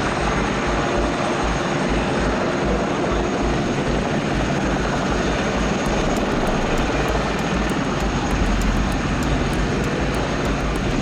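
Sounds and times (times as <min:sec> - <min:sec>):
helicopter rotor and turbine noise: 0:00.0 - 0:11.0.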